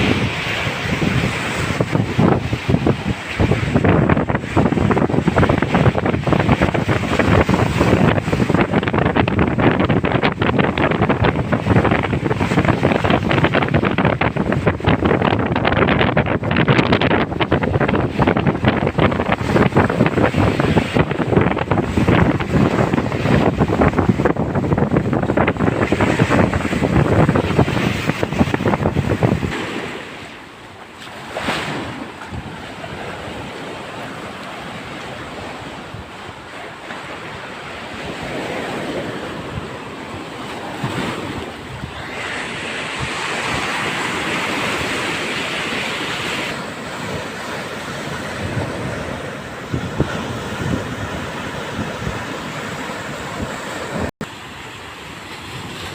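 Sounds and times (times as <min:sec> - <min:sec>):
wind buffeting microphone: 0:00.0 - 0:54.3
waves breaking and rushing: 0:00.0 - 0:55.9.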